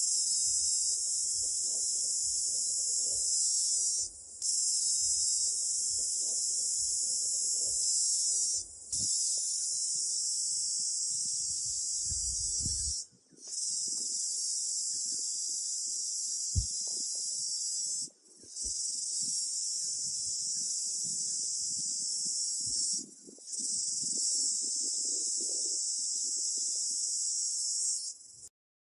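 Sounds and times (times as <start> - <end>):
cicadas buzzing: 0.0 - 28.5.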